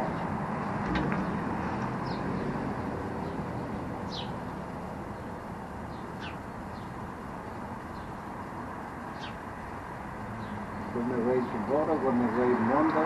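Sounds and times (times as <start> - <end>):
steady background noise: 0.0 - 13.0
bird chirping: 1.1 - 9.5, 10.3 - 12.6.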